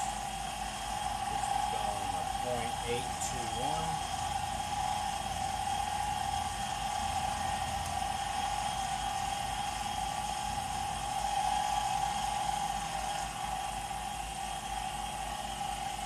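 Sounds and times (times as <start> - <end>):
milling spindle whine: 0.0 - 16.0.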